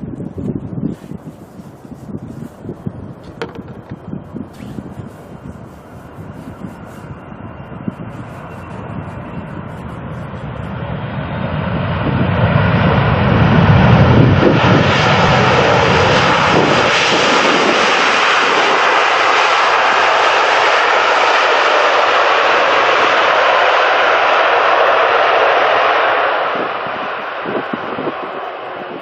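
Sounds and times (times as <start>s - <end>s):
jet airliner roar: 0.0s - 29.0s.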